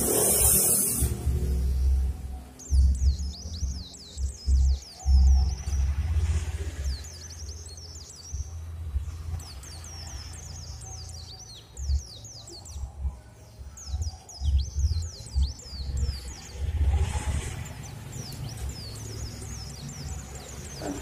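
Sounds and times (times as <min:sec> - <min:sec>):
low rumble: 0:00.0 - 0:21.0
small birds chirping: 0:00.0 - 0:21.0.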